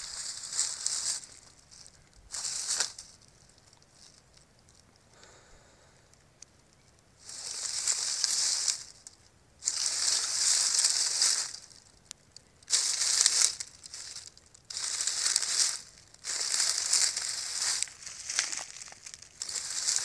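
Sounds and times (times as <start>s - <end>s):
rustling through dry leaves: 0.0s - 4.9s, 7.2s - 20.0s.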